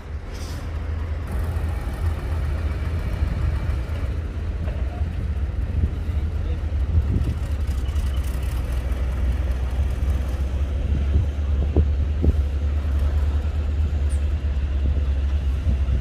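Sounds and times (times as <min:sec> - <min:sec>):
bulldozer engine rumble: 0:00.0 - 0:16.0.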